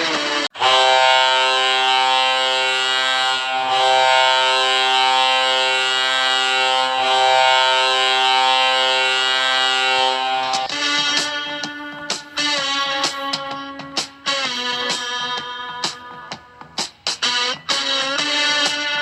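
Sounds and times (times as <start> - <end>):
hockey goal horn blast: 0.0 - 19.0.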